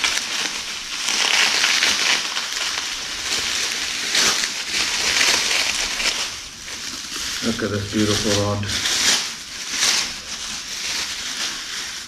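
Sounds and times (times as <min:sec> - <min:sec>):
bubble wrap rustling and crackling: 0:00.0 - 0:12.0.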